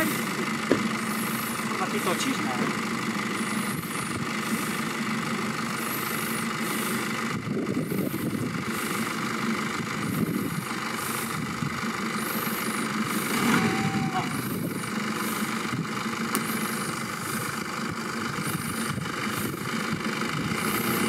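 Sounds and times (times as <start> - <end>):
vehicle engine running at low revs: 0.0 - 21.0.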